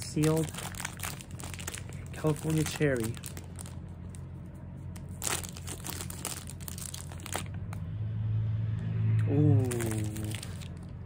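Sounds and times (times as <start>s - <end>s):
plastic packaging crinkling: 0.0s - 7.5s, 9.6s - 11.0s
steady low hum: 0.0s - 11.0s.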